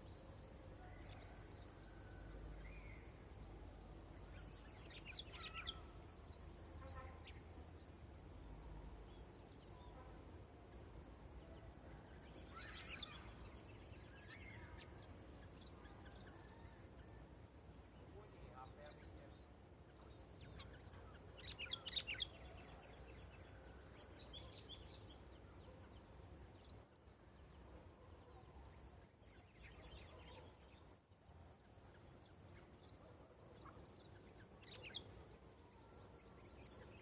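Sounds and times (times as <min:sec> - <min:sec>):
faint high-pitched whine: 0:00.0 - 0:37.0
songbirds chirping: 0:00.0 - 0:37.0.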